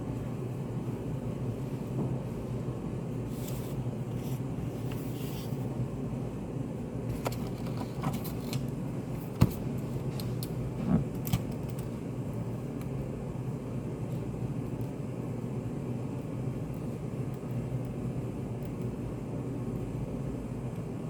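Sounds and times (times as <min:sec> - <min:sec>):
ventilation hum: 0:00.0 - 0:21.0.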